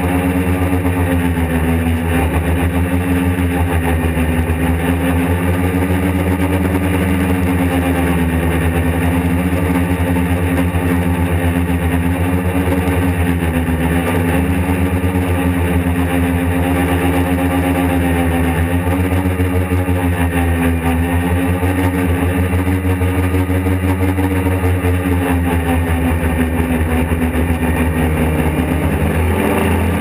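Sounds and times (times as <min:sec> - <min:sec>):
quadcopter propellers droning: 0:00.0 - 0:30.0.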